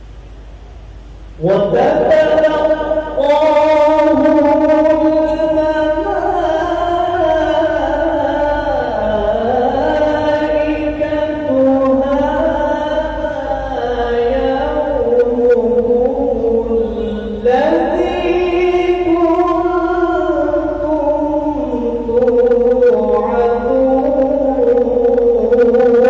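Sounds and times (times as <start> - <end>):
man chanting melodic recitation: 1.4 - 26.0.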